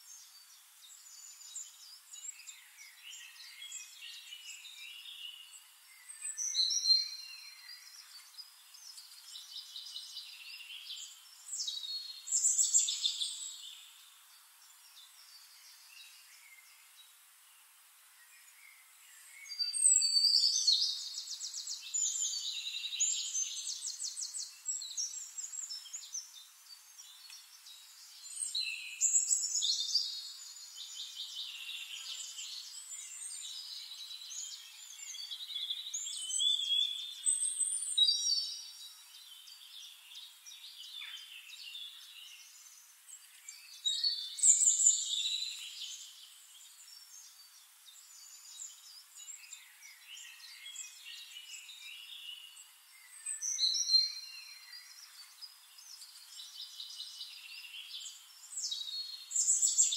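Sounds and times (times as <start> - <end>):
songbirds trilling and chirping: 0.0 - 59.9.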